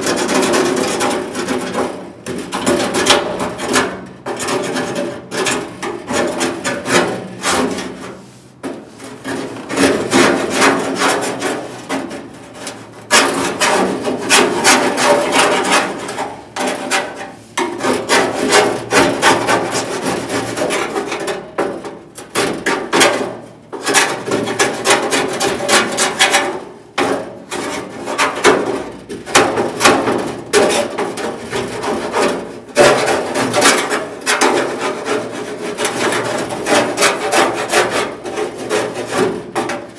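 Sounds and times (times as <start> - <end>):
hand tool scraping sheet metal: 0.0 - 39.9.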